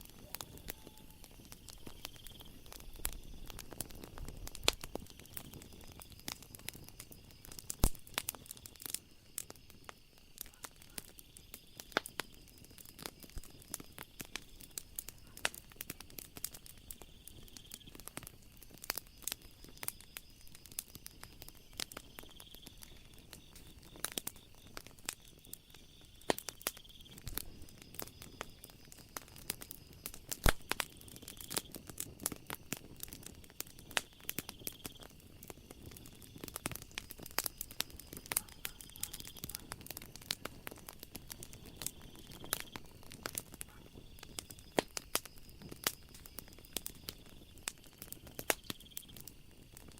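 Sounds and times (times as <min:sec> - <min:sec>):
night insects trilling: 0:00.0 - 0:49.9
wood fire crackling: 0:00.0 - 0:49.9.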